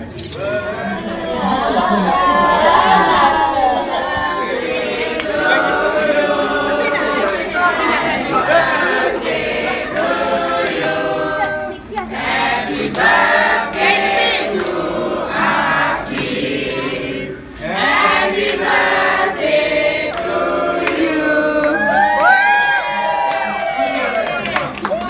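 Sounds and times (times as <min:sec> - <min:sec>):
group singing together: 0:00.0 - 0:22.4.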